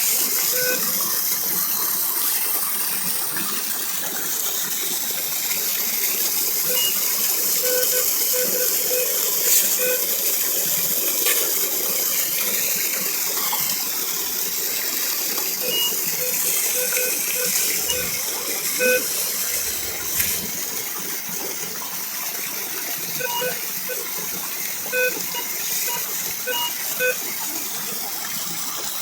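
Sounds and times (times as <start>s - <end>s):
small waterfall pouring: 0.0s - 29.0s.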